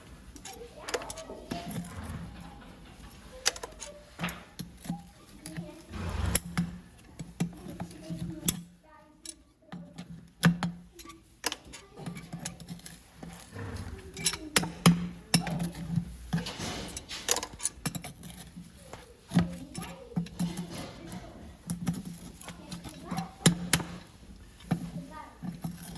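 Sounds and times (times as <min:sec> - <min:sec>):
tools clicking on a hoof: 0:00.2 - 0:25.9.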